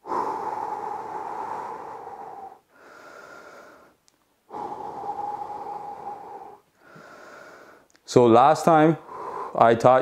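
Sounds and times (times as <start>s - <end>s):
man breathing deeply: 0.0s - 8.0s, 9.0s - 9.8s.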